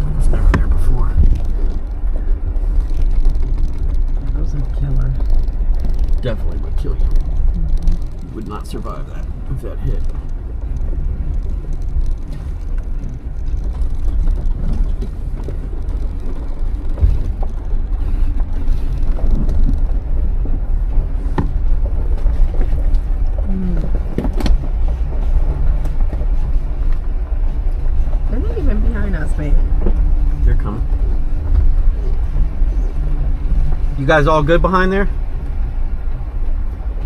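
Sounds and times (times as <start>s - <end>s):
jeep engine rumbling: 0.0s - 37.0s.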